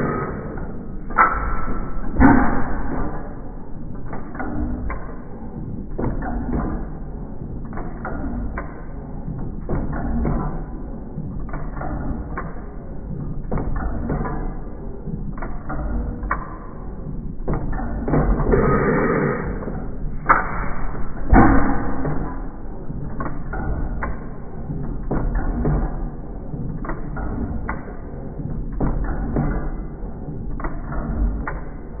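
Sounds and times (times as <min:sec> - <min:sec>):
hit-and-miss engine running: 0:00.0 - 0:32.0
sharp engine knocks: 0:00.0 - 0:32.0
sharp mechanical clicks: 0:00.0 - 0:32.0.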